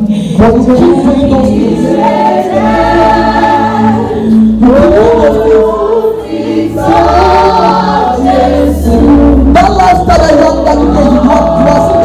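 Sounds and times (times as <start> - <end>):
bass accompaniment: 0.0 - 12.0
gospel choir singing: 0.0 - 12.0.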